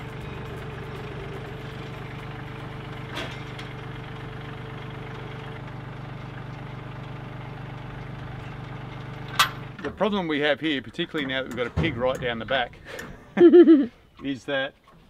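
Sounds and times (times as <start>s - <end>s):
tractor engine idling: 0.0s - 13.4s.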